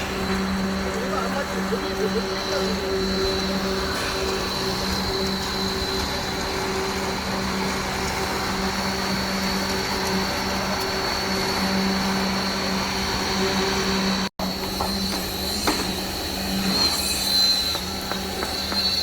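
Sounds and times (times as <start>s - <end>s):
machine drone with hum: 0.0s - 19.0s
thin high whine: 0.0s - 19.0s.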